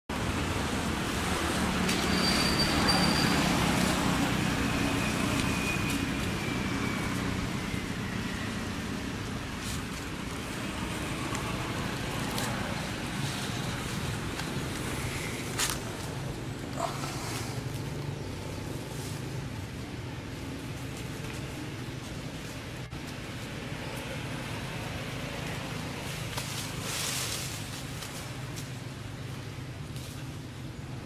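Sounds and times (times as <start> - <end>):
traffic roar: 0.1 - 31.0
vehicle engine hum: 0.1 - 31.0.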